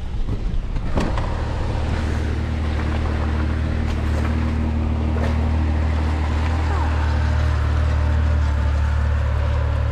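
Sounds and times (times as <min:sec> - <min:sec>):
car engine running: 0:00.0 - 0:09.9.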